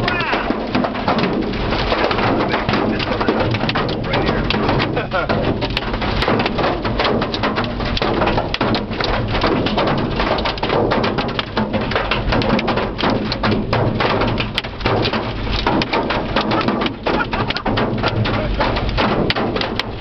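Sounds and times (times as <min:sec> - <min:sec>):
hail drumming on a car roof: 0:00.0 - 0:20.0.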